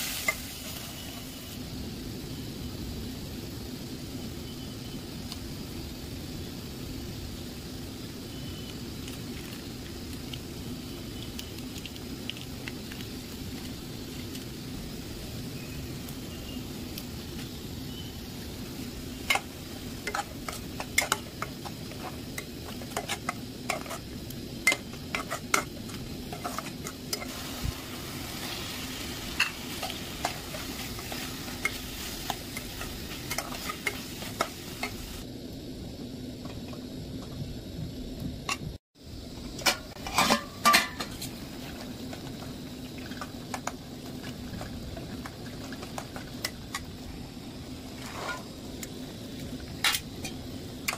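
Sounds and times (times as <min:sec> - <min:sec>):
food sizzling: 0:00.0 - 0:50.9.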